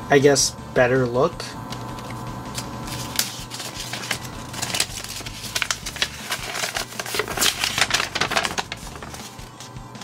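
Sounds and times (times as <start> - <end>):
paper rustling and crinkling: 2.0 - 10.0.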